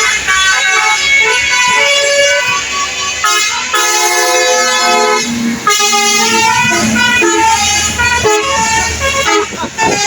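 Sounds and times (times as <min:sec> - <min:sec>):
multi-tone air horn: 0:00.0 - 0:10.0.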